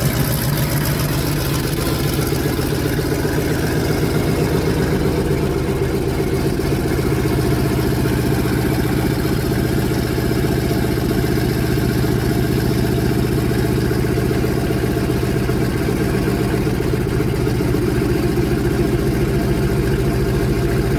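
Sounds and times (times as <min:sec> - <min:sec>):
tank engine idling: 0:00.0 - 0:20.9.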